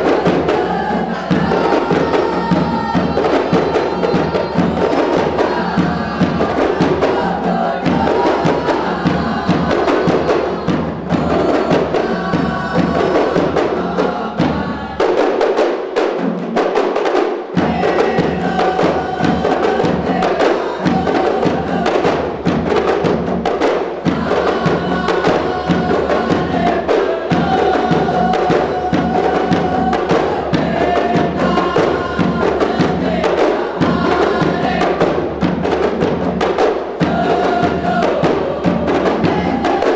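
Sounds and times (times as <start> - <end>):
music with rapid percussion: 0.0 - 39.9.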